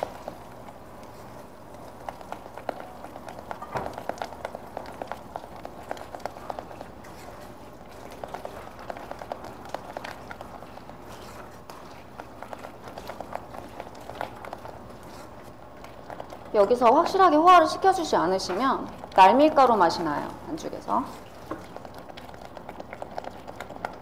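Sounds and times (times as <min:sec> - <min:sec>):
whisk clicking in thick cream: 0:00.0 - 0:24.0.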